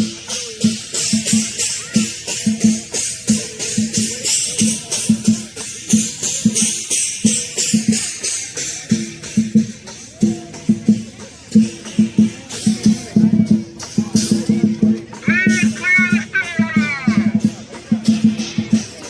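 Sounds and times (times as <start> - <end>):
cymbals clashing: 0.0 - 16.2, 16.8 - 19.0
big drum beating: 0.0 - 19.0.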